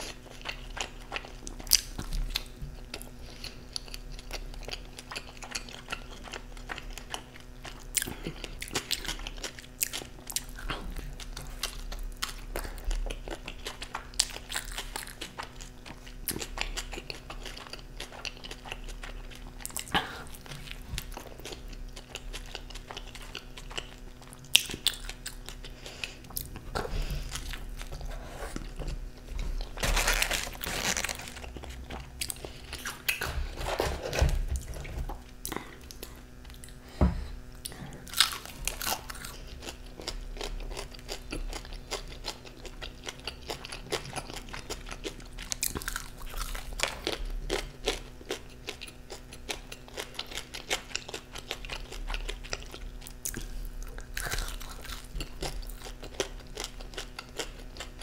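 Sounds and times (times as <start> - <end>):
chewing and biting food: 0.0 - 58.0
crispy food crunching: 0.0 - 58.0.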